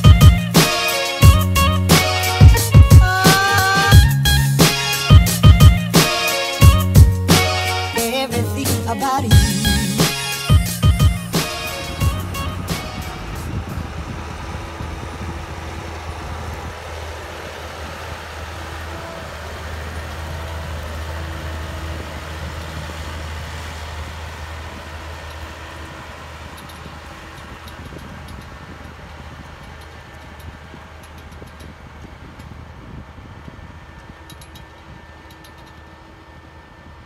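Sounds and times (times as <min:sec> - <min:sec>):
tractor diesel engine under load: 0:00.0 - 0:37.0.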